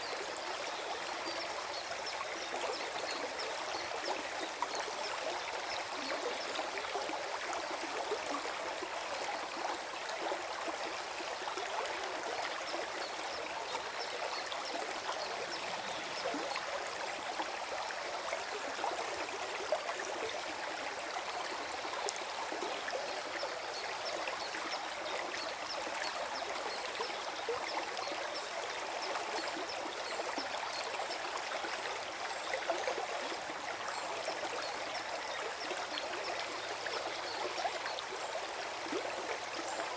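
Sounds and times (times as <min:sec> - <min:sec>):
stream gurgling over rocks: 0:00.0 - 0:39.9.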